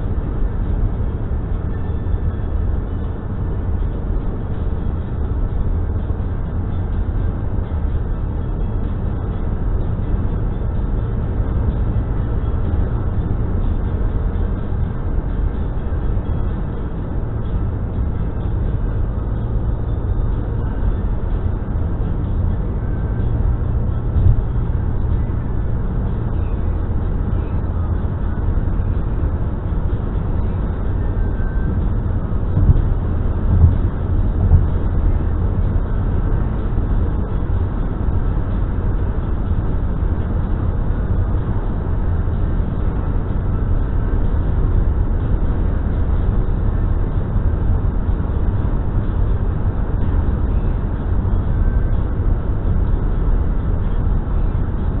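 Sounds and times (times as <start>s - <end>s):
tyre and engine rumble: 0.0s - 55.0s.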